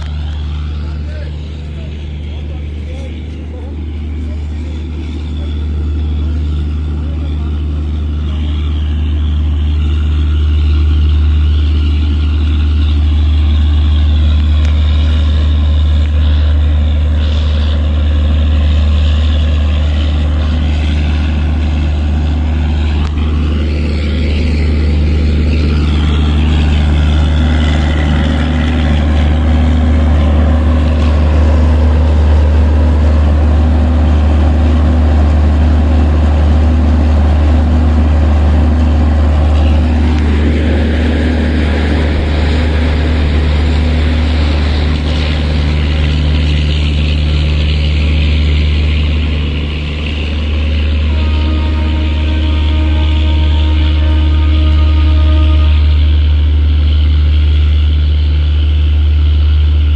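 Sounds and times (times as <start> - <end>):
diesel generator droning: 0.0 - 59.9.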